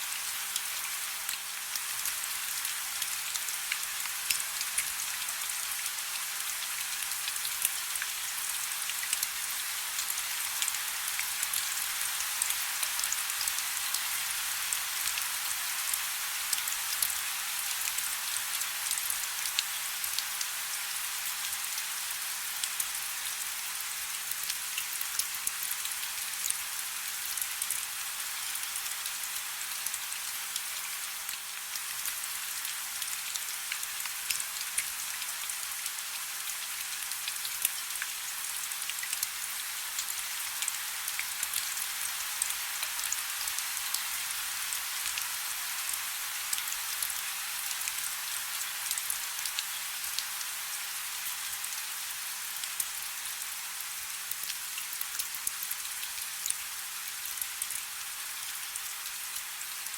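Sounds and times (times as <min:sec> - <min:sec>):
soft rain patter: 0:00.0 - 0:59.9.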